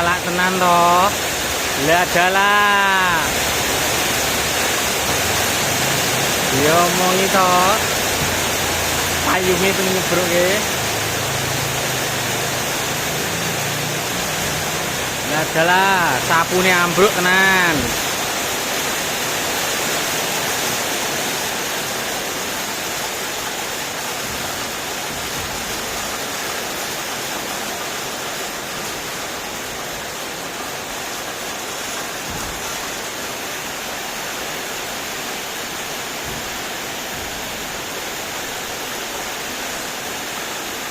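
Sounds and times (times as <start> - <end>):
rain pouring: 0.0 - 40.9.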